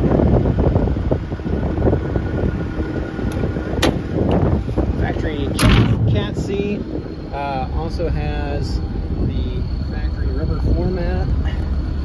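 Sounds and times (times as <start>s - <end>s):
diesel engine rumble: 0.0s - 12.0s
wind buffeting microphone: 0.0s - 12.0s.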